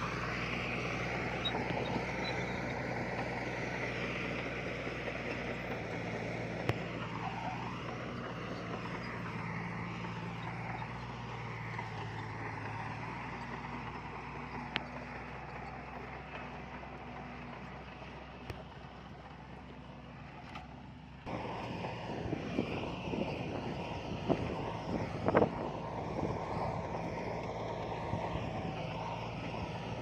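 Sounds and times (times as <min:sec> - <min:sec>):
diesel machinery engine: 0:00.0 - 0:30.0.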